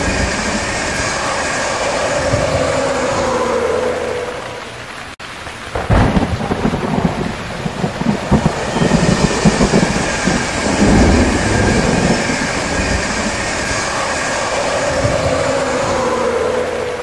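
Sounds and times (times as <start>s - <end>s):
train passing rumble: 0.0s - 5.2s, 5.8s - 17.0s.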